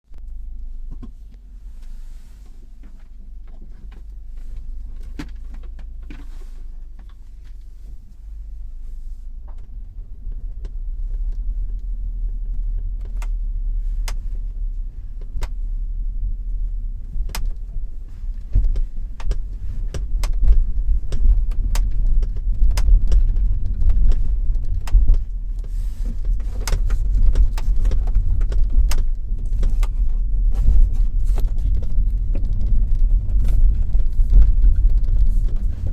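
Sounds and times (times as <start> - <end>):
road rumble: 0.0 - 35.9.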